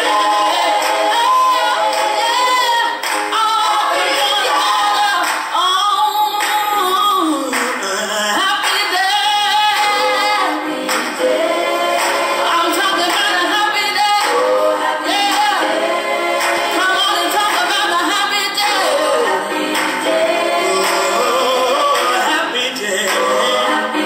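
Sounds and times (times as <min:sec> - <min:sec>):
song with singing voices: 0:00.0 - 0:24.0.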